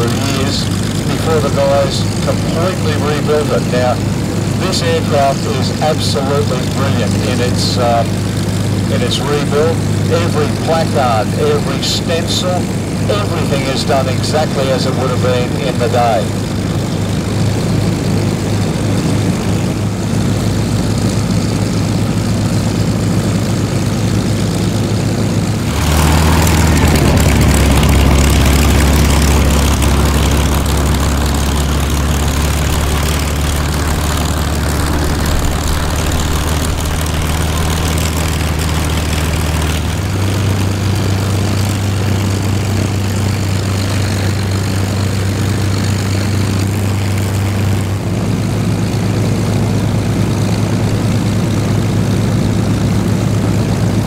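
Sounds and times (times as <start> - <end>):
aircraft engine idling: 0.0 - 54.0
deeper aircraft engine idling: 0.0 - 54.0.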